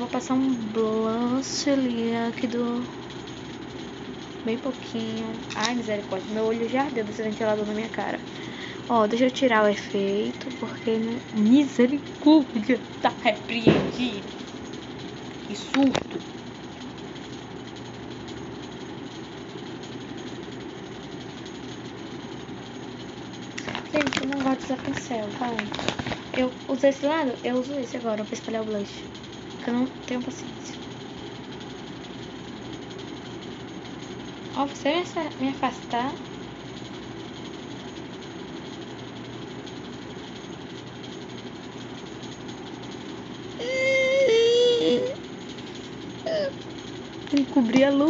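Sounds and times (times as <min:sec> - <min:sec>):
electric fan whirring: 0:00.0 - 0:48.0.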